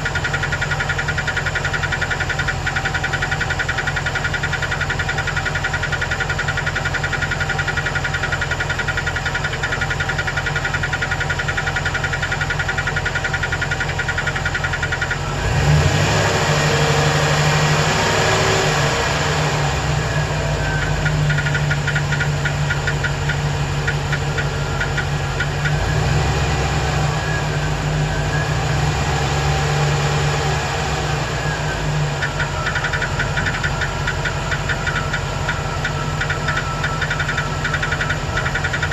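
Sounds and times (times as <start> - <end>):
engine idling and revving: 0.0 - 38.9
fast regular engine ticking: 0.0 - 38.9.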